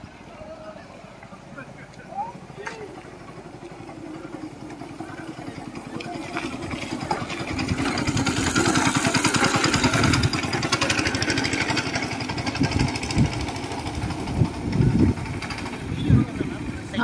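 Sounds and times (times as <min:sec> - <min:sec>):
go-kart engine passing: 0:00.0 - 0:17.0.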